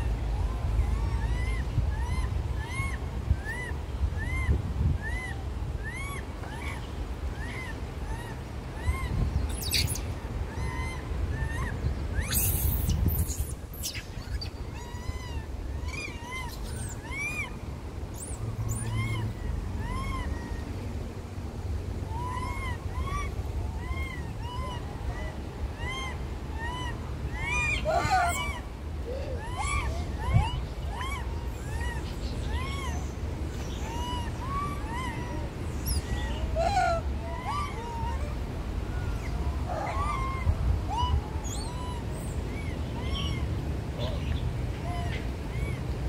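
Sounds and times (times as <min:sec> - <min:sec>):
monkeys crying: 0:00.0 - 0:21.2, 0:22.0 - 0:46.0
low wind rumble: 0:00.0 - 0:46.0
monkey screaming: 0:00.6 - 0:06.8, 0:07.4 - 0:20.7, 0:22.1 - 0:45.8.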